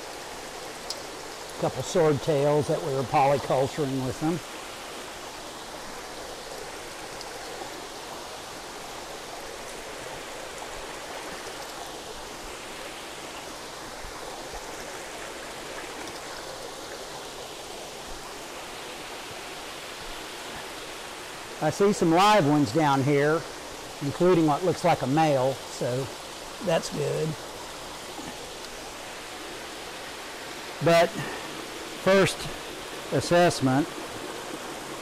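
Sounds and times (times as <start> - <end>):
water spilling into tanks: 0.0 - 35.0.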